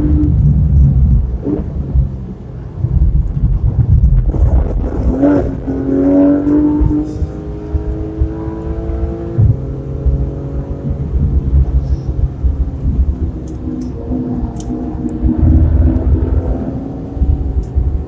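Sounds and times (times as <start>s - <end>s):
car engine revving: 0.0s - 18.0s
road rumble: 0.0s - 18.0s.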